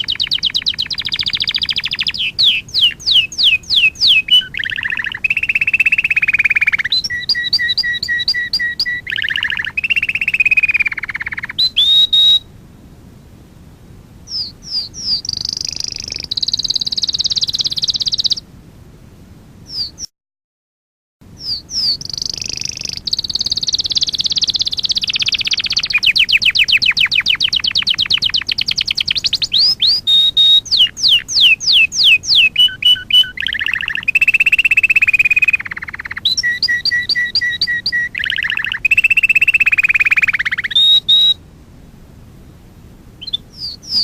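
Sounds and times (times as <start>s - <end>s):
canary singing: 0.0s - 12.5s, 14.3s - 18.4s, 19.7s - 20.1s, 21.3s - 41.4s, 43.2s - 44.0s.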